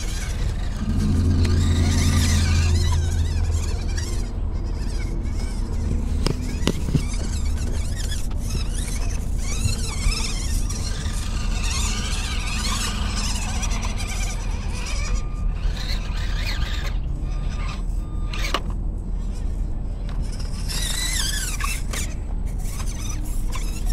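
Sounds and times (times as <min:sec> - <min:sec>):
small electric motor whining: 0:00.0 - 0:23.9.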